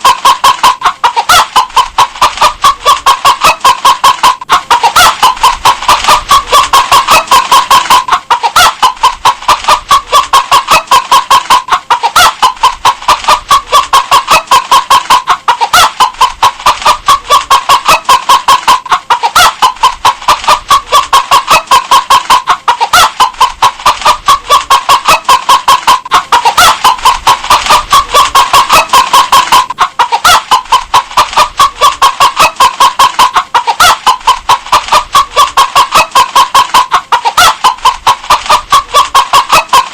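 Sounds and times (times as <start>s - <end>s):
hen clucking: 0.0s - 39.9s.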